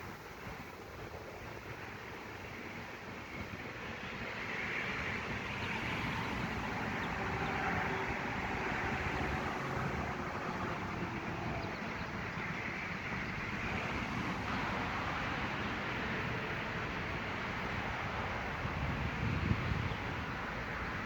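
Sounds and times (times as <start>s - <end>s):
distant road traffic: 0.0s - 21.0s.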